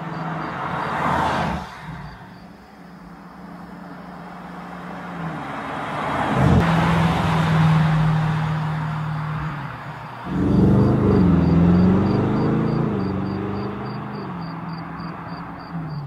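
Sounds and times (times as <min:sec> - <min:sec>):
car engine driving by: 0:00.0 - 0:16.0.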